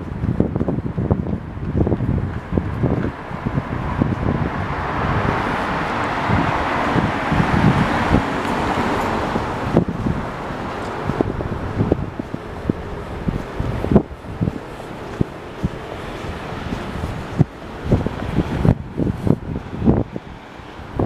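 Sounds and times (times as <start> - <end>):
wind buffeting microphone: 0.0 - 21.0
vehicle passing: 1.8 - 21.0.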